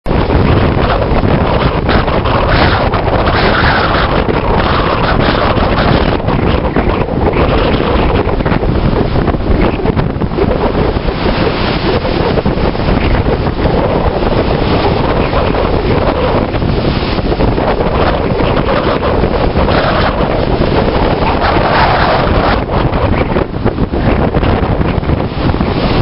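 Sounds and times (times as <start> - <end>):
wind buffeting microphone: 0.0 - 26.0
sea waves washing: 0.1 - 26.0.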